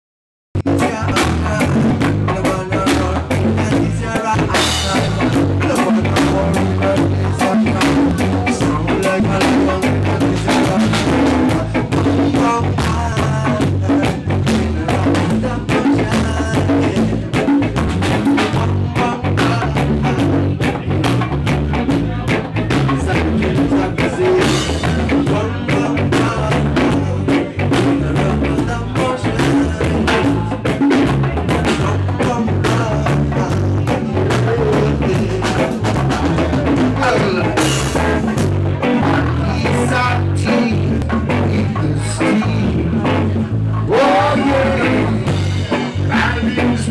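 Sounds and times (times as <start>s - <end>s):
bass line: 0.5s - 46.9s
drum kit: 0.6s - 46.9s
electric guitar: 0.6s - 46.9s
voices singing into microphones: 0.8s - 21.0s, 21.8s - 46.9s.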